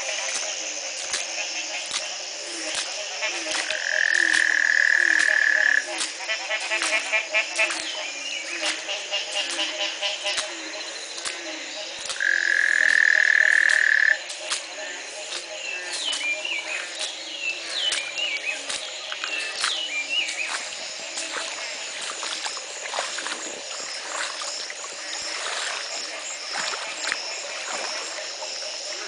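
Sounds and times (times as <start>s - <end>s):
frog chorus croaking: 0.0s - 29.0s.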